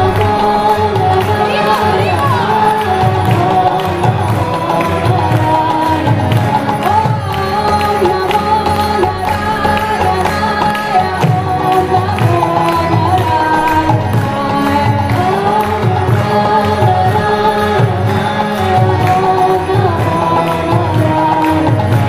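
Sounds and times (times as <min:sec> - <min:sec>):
hand drum beat: 0:00.0 - 0:22.0
harmonium drone: 0:00.0 - 0:22.0
sung devotional chant: 0:00.0 - 0:22.0.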